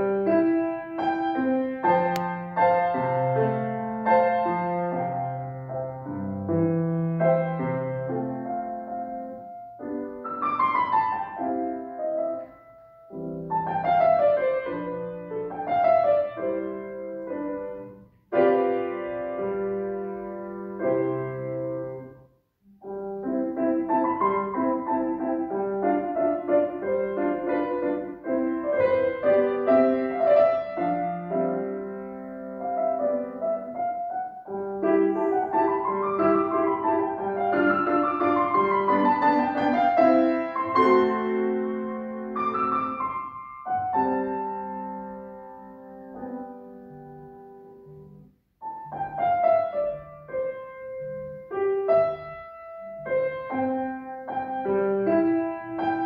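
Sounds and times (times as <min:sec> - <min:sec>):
piano playing classical piece: 0:00.0 - 0:56.0.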